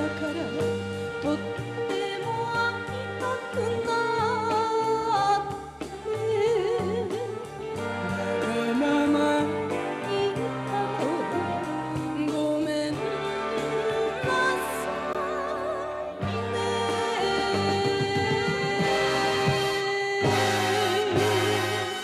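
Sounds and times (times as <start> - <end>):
woman singing pop ballad: 0.0 - 7.8, 8.4 - 21.7
band with saxophones and brass: 0.0 - 22.0.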